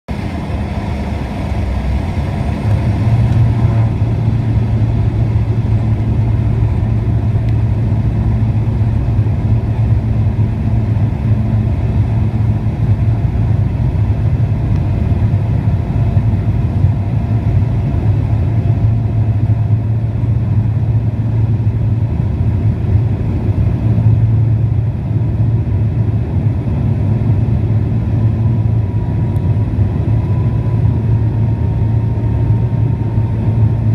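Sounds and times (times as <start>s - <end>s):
turboprop engine droning: 0.1s - 33.9s.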